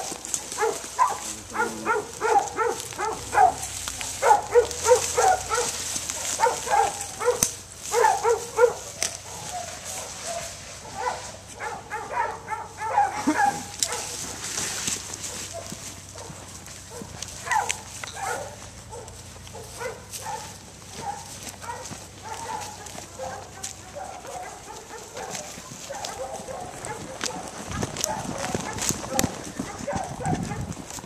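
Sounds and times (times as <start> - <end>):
dogs barking: 0.0 - 31.0.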